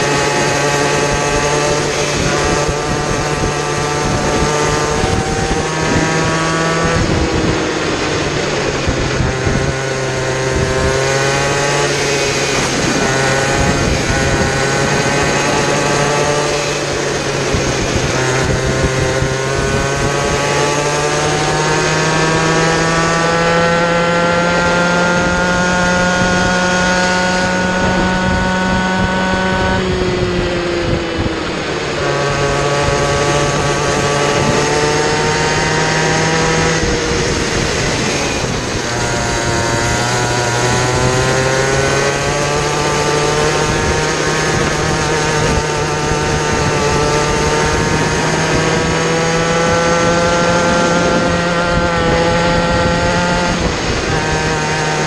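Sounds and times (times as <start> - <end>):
kart two-stroke engine racing: 0.0 - 55.0.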